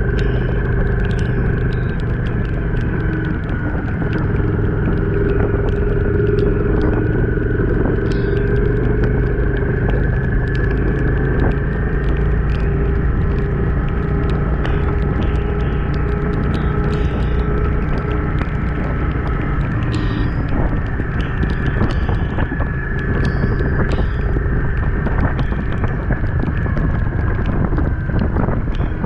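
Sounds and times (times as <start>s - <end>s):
light ticks: 0.0s - 29.0s
motorcycle engine running: 0.0s - 29.0s
rush of wind: 0.0s - 29.0s
tyre noise on wet road: 0.0s - 29.0s.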